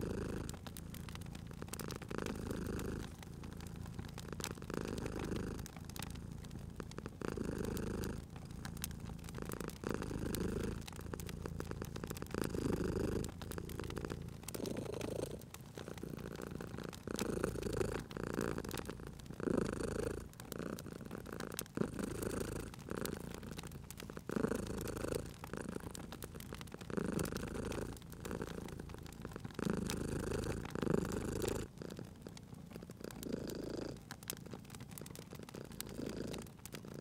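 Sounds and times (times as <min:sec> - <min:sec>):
cat purring: 0:00.0 - 0:37.0
wood fire crackling and popping: 0:00.0 - 0:37.0.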